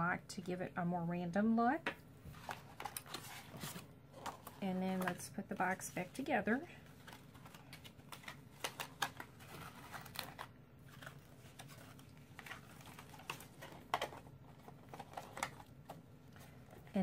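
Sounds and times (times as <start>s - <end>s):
card rustling: 2.3s - 17.0s.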